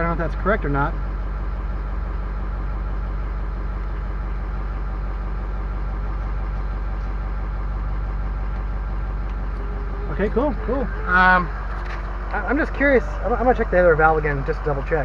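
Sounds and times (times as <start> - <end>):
pickup truck engine idling: 0.0 - 15.0.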